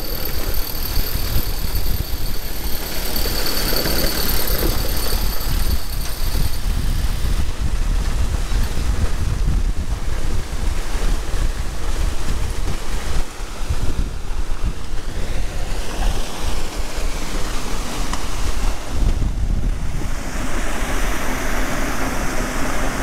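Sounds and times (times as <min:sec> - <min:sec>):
steady rushing noise: 0:00.0 - 0:23.0
wind buffeting microphone: 0:00.0 - 0:23.0.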